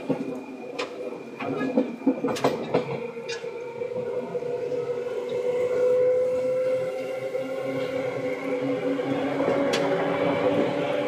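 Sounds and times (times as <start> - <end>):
electric train hum and rumble: 0.0 - 11.0.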